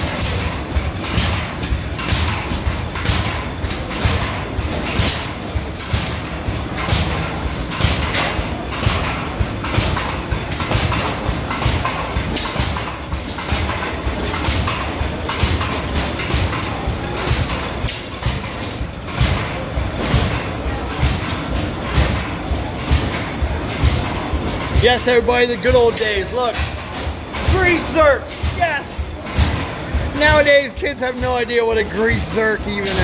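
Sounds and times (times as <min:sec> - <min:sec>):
gas engines knocking: 0:00.0 - 0:33.0.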